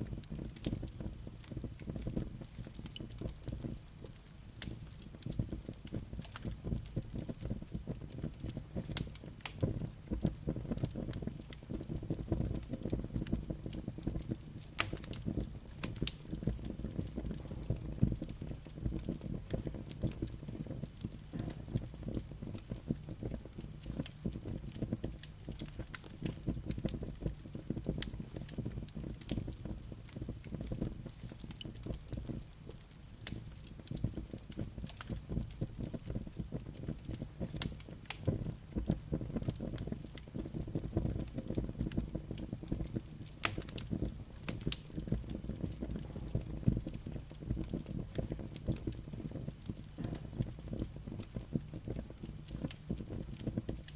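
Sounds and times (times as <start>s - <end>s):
fire flames rumbling: 0.0s - 53.9s
wood crackling and popping: 0.0s - 53.9s.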